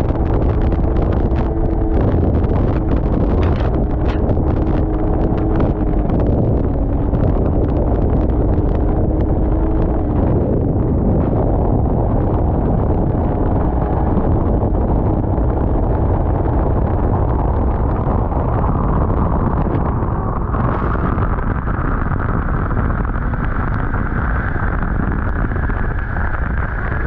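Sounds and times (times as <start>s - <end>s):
high whine: 0.0s - 27.0s
snowmobile engine running: 0.0s - 27.0s
wind buffeting the microphone: 0.0s - 27.0s.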